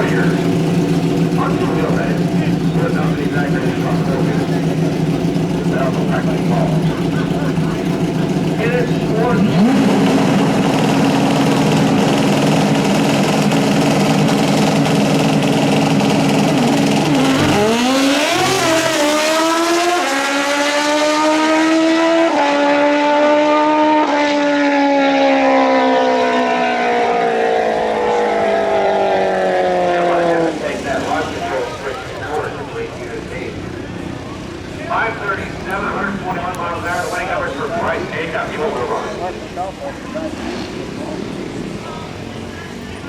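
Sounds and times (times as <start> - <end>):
motorcycle engine revving and accelerating: 0.0 - 32.6, 37.6 - 43.0.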